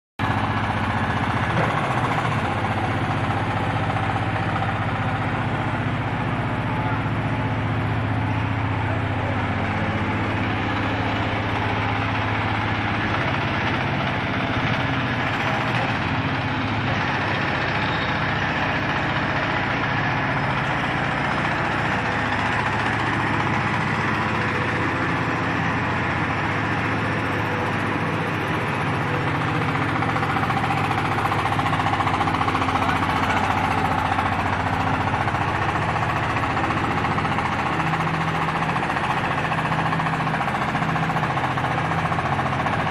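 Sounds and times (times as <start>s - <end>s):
diesel engine running: 0.2s - 42.9s.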